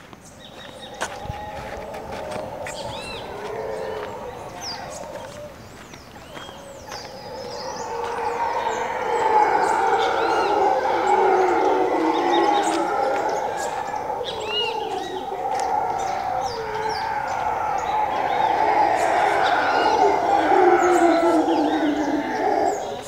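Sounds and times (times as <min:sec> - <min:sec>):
birds chirping: 0:00.0 - 0:23.0
howler monkeys roaring: 0:00.5 - 0:23.0.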